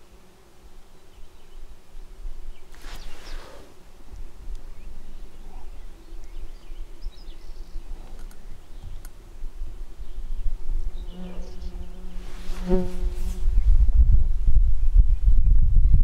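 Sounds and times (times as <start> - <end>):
flying insect buzzing: 0.0 - 14.5.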